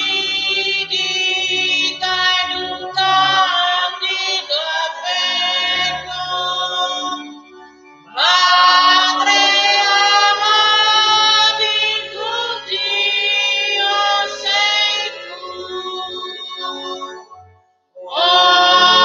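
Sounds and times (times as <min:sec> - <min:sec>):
choir singing a slow hymn: 0:00.0 - 0:07.2, 0:08.1 - 0:17.0, 0:18.0 - 0:19.0.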